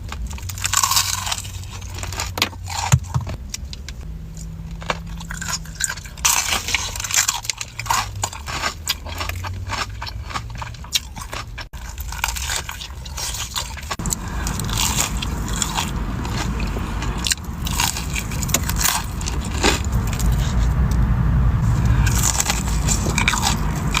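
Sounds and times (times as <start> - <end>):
chewing crunchy food: 0.0 - 20.8, 21.7 - 24.0
low rumble: 0.0 - 24.0.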